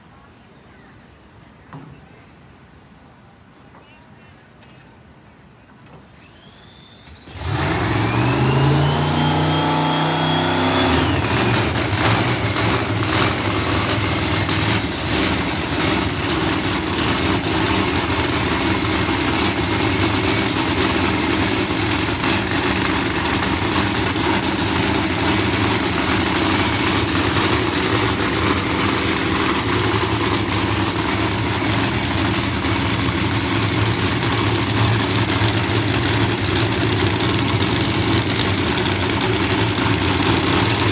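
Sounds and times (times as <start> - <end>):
supercharged race car engine: 6.1 - 40.9.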